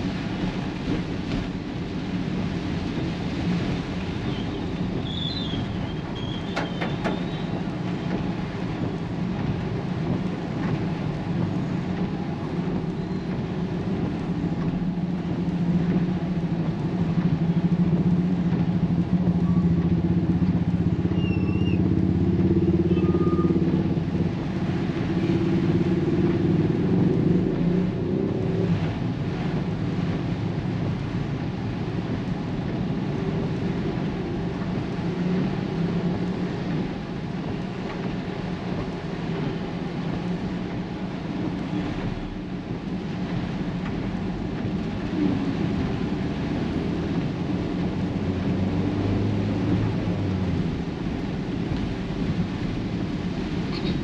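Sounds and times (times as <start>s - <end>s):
road noise: 0.0s - 54.0s
vehicle engine humming: 0.0s - 54.0s.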